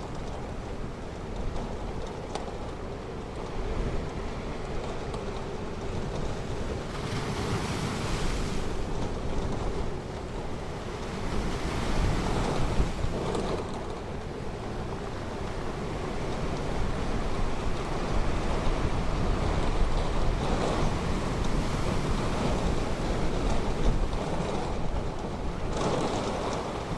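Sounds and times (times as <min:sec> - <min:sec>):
low wind rumble on microphone: 0:00.0 - 0:26.9
ocean surf washing onto beach: 0:00.0 - 0:26.9.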